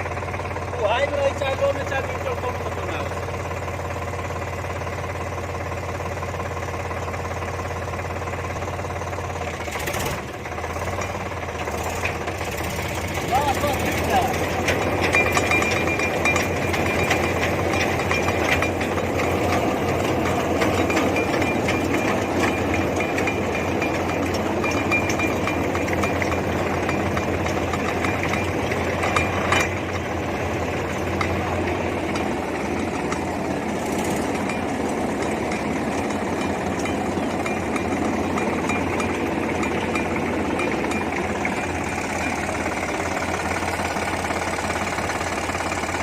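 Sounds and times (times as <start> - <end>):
diesel tractor engine idling: 0.0 - 46.0.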